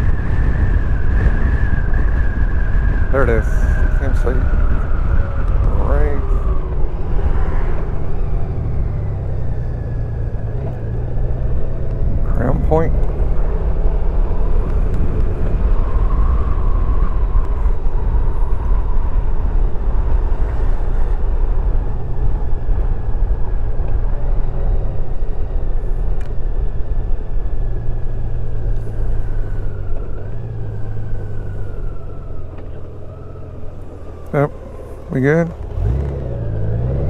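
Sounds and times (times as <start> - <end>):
motorcycle engine hum: 0.0 - 37.0
wind rumble on microphone: 0.0 - 37.0.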